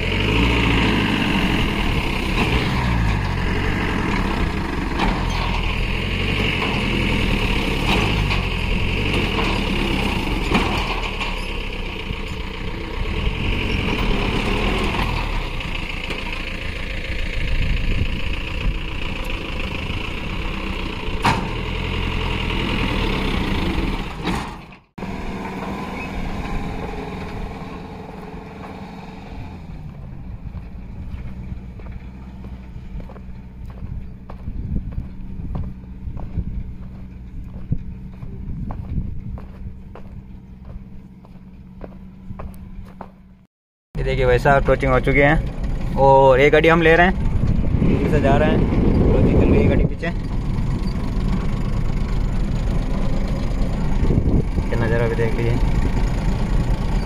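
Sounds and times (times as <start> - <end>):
truck and jeep engines under load: 0.0 - 57.0.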